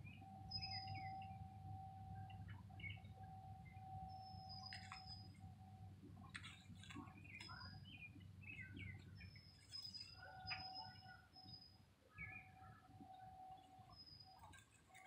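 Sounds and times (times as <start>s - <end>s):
low background rumble: 0.0s - 14.9s
faint songbirds calling: 0.0s - 15.0s.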